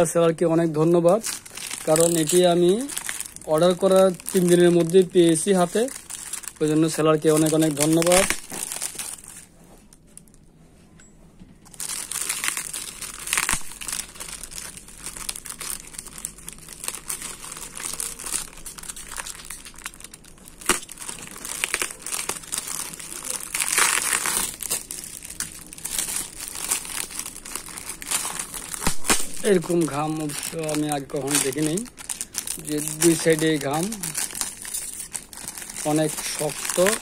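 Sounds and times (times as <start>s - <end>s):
packaging crinkling and tearing: 0.0s - 10.4s, 11.6s - 37.0s.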